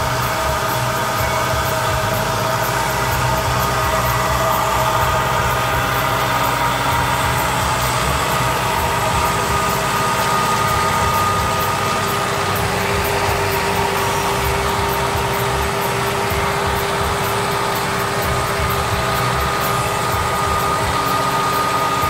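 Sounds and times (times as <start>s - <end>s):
car low rumble: 0.0s - 21.9s
tractor diesel engine running: 0.0s - 22.0s.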